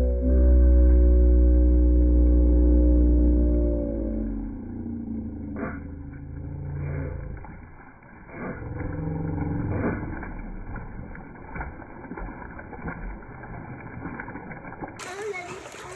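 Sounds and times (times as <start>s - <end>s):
slowed-down low water rumble: 0.0s - 15.9s.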